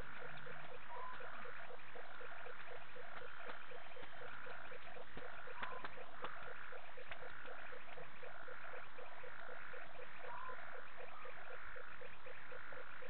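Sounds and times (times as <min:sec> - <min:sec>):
frogs croaking rapidly: 0:00.0 - 0:13.0
higher frog calls: 0:00.0 - 0:13.0.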